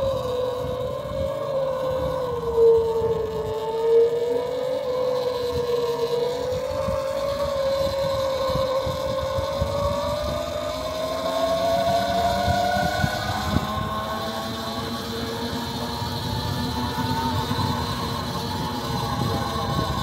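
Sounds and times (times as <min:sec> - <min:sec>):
electric bike motor whine: 0:00.0 - 0:20.0
wind rumble on microphone: 0:00.0 - 0:20.0.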